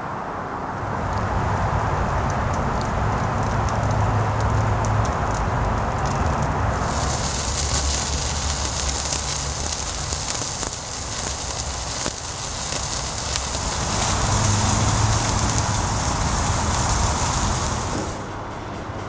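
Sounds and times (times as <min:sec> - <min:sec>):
grill fire hissing and sizzling: 0:00.1 - 0:18.6
faint crackles: 0:00.8 - 0:18.3.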